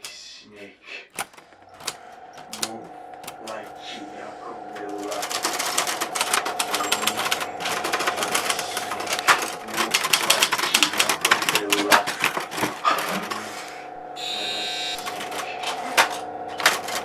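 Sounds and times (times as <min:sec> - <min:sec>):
rapid typewriter keystrokes: 0:00.0 - 0:00.2, 0:01.1 - 0:13.6, 0:14.2 - 0:17.0
steady hum: 0:00.0 - 0:17.0.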